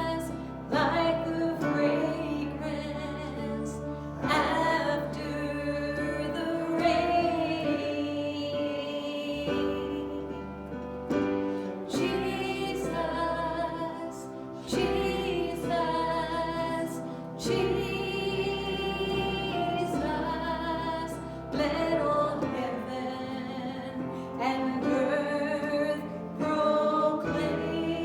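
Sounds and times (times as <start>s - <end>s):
worship song with instruments: 0.0s - 28.0s.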